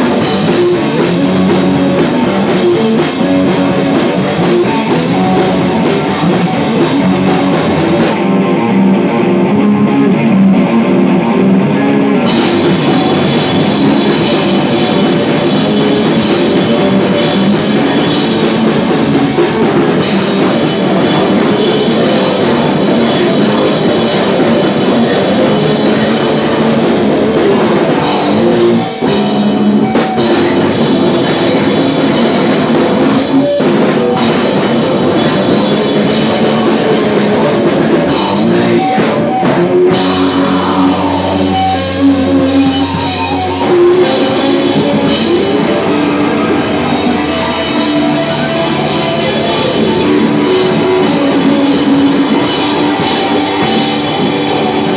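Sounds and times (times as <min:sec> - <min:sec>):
distorted electric guitar: 0:00.0 - 0:54.9
drum kit: 0:00.0 - 0:54.9.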